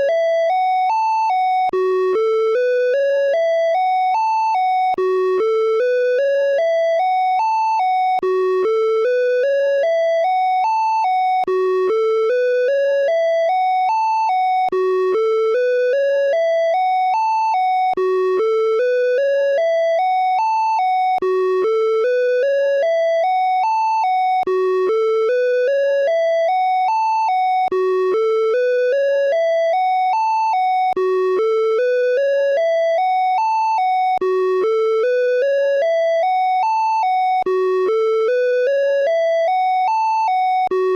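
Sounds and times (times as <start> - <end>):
electronic alarm tone climbing notes: 0.0 - 40.9.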